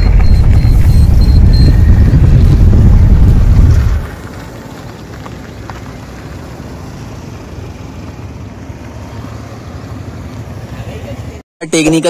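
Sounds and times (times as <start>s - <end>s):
car engine and tyre rumble: 0.0s - 11.4s.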